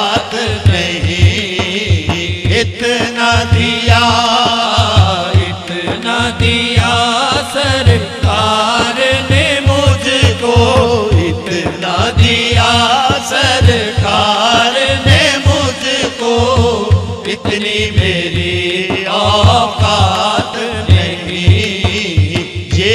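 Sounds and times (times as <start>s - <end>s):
frame drum beating: 0.0s - 22.9s
man singing ornamented lines: 0.0s - 22.9s.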